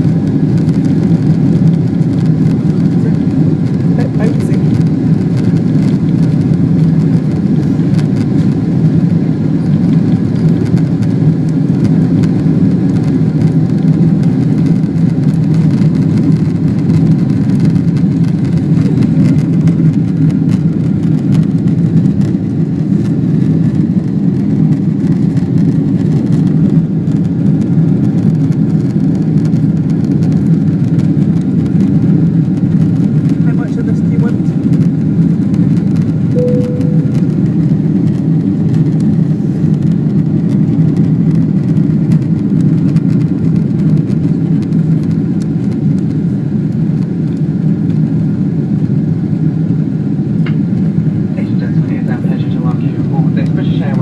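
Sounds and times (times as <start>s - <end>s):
jet engines low rumble: 0.0s - 54.0s.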